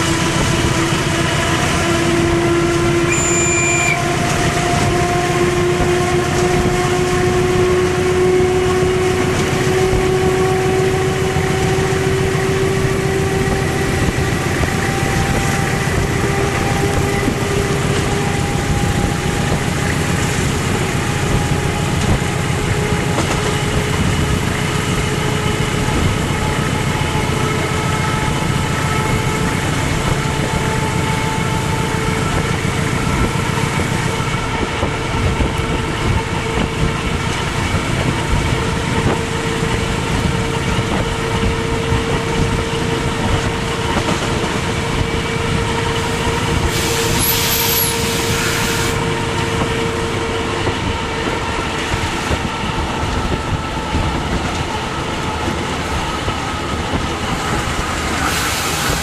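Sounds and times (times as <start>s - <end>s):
locomotive engine drone and whine: 0.0s - 59.0s
wheels rumbling on rail: 0.0s - 59.0s.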